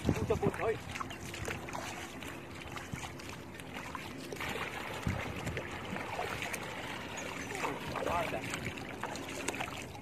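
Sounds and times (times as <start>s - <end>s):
wading through shallow water: 0.0s - 10.0s
water swishing and splashing: 0.0s - 10.0s.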